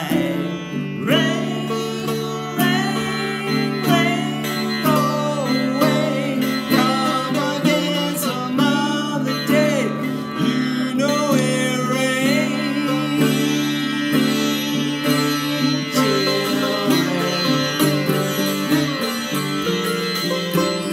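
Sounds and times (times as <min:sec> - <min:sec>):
man singing: 0:00.0 - 0:20.9
sitar with sliding notes: 0:00.0 - 0:20.9
ukulele strumming: 0:00.0 - 0:20.9.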